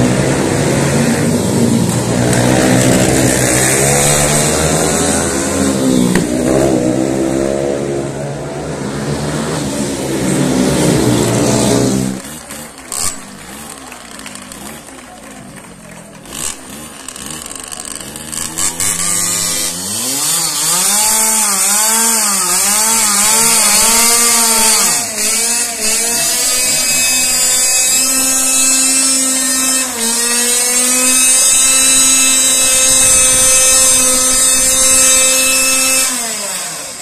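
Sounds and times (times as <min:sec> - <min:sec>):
small two-stroke engine revving: 0:00.0 - 0:37.0.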